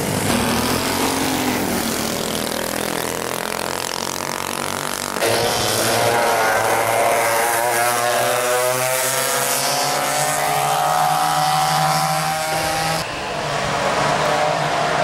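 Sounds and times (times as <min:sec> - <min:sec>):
go-kart engines racing: 0:00.0 - 0:15.0.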